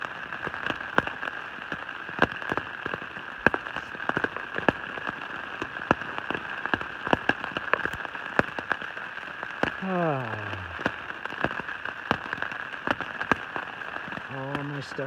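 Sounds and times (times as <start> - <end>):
heavy rain on a tent: 0.0 - 15.0
raindrops tapping sharply: 0.0 - 15.0.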